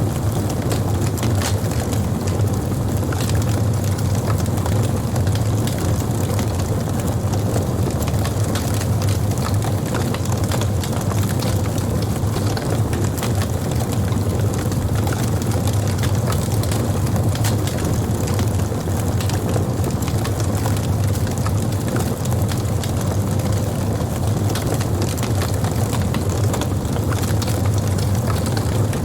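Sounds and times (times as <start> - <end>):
campfire wood crackling and popping: 0.0 - 29.0
low fire rumble: 0.0 - 29.0.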